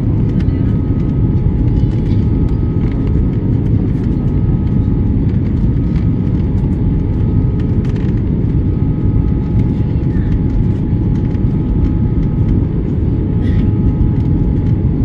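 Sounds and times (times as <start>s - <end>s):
airliner engine and airflow rumble: 0.0s - 15.0s.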